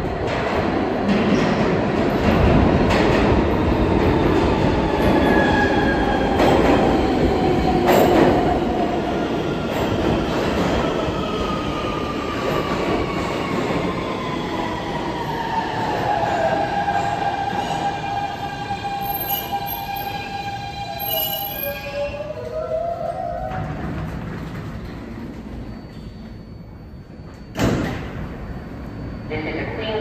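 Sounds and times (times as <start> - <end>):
subway train propulsion whine: 0.0 - 30.0.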